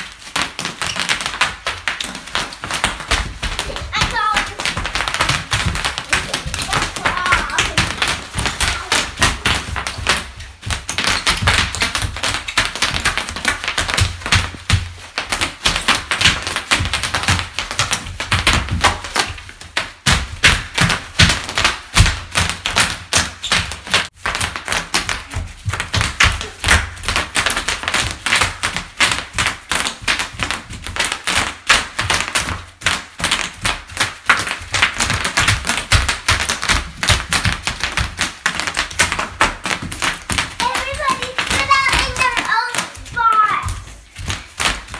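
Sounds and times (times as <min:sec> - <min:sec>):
feet thudding on wood: 0:00.0 - 0:44.9.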